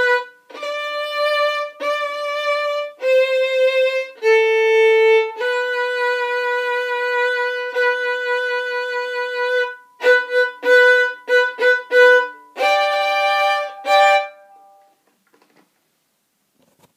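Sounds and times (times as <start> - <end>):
solo violin: 0.0 - 14.9.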